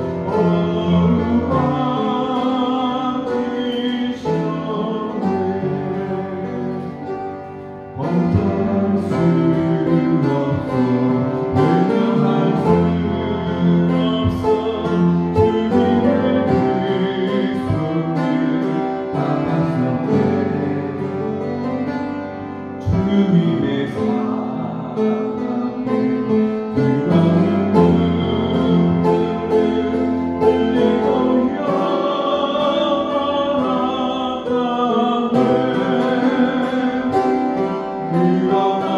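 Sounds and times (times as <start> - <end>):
man singing: 0.0 - 38.9
upright piano playing: 0.0 - 38.9.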